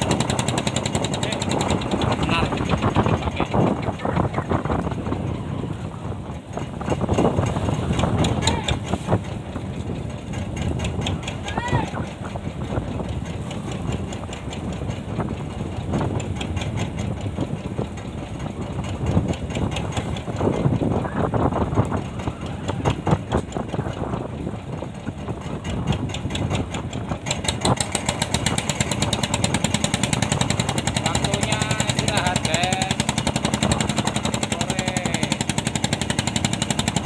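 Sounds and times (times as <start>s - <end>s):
boat engine knocking: 0.0s - 37.0s.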